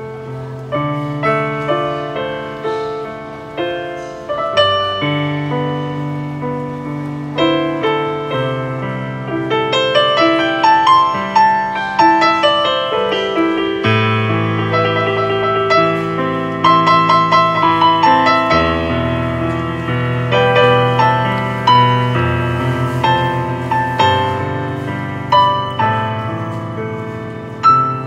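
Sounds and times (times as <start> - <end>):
piano melody with bass notes: 0.0 - 28.0.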